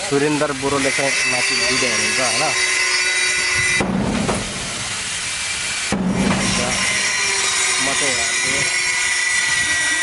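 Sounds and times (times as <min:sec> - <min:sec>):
workshop background noise: 0:00.0 - 0:10.0.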